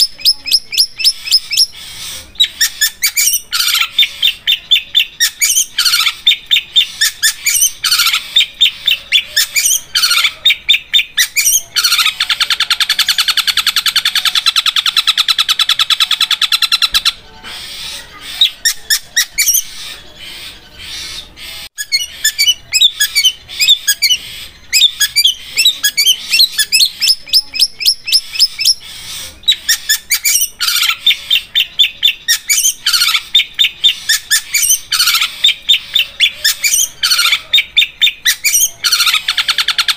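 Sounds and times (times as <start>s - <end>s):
bird singing sharp rapid notes: 0.0s - 39.8s
bird chirps and calls: 0.0s - 39.9s.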